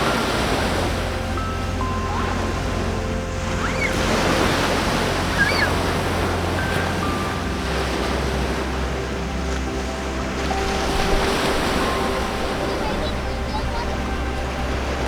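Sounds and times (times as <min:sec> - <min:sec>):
sea waves and surf: 0:00.0 - 0:15.0
soft background music: 0:00.0 - 0:15.0.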